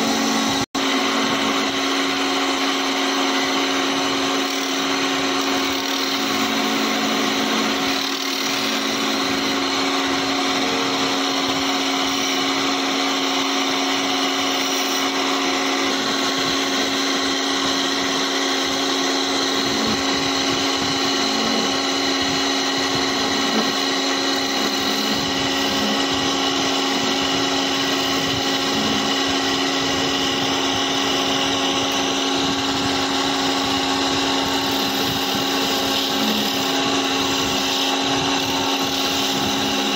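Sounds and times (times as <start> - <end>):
chisel hissing on spinning wood: 0.0 - 39.9
lathe motor hum: 0.0 - 39.9.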